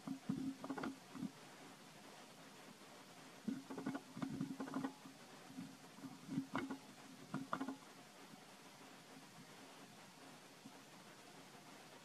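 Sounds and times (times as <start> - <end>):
infant monkey suckling: 0.0 - 12.0.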